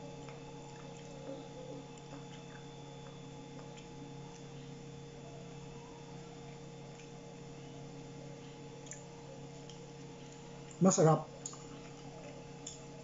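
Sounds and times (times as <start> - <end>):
chewing and handling food: 0.0 - 13.0
low hum: 0.0 - 13.0.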